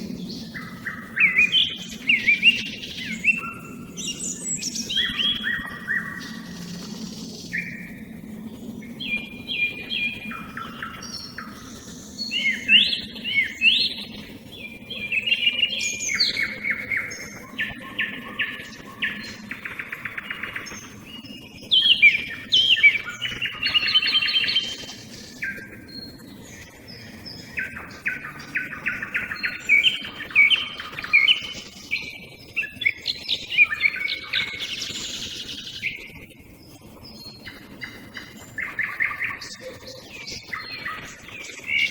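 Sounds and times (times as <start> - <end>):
small birds calling: 0.0 - 36.0
songbirds singing trills: 0.0 - 41.9.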